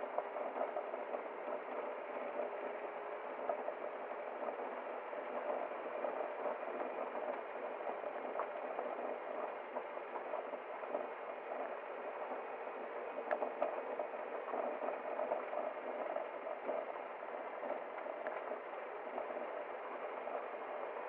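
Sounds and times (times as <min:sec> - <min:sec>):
faint water ticks: 0:00.0 - 0:21.0.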